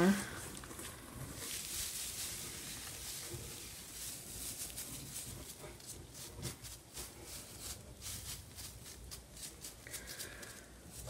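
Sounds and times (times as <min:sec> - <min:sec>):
shredded paper rustling: 0:00.4 - 0:11.0.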